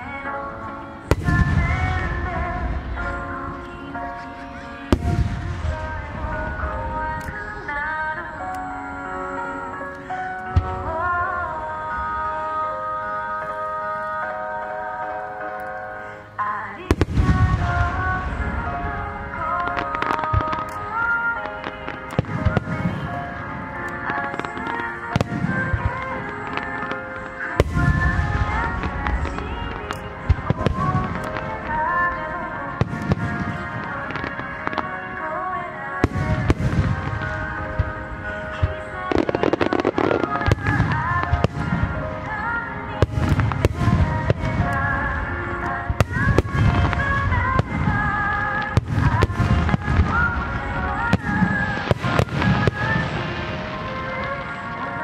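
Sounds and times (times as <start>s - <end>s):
fireworks booming: 0.0s - 13.6s, 16.8s - 55.0s
music: 0.0s - 55.0s.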